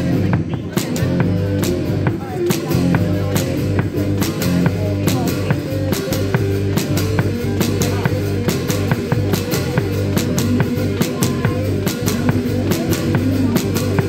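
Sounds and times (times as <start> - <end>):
drum kit beat: 0.0 - 14.0
rock band playing: 0.0 - 14.0.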